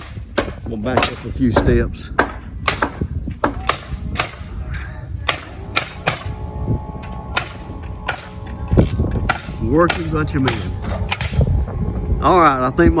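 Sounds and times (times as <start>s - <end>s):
nails being driven cracking: 0.0s - 6.4s, 7.0s - 11.5s
low rumble: 0.0s - 13.0s
faint steady hum: 2.0s - 13.0s.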